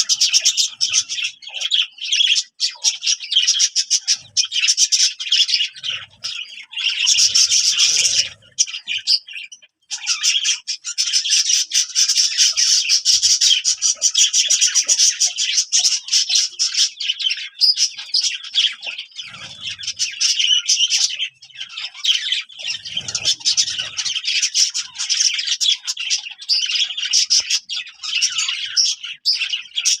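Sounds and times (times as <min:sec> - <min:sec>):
bird squawks: 0:00.0 - 0:30.0
small birds chirping: 0:00.0 - 0:30.0.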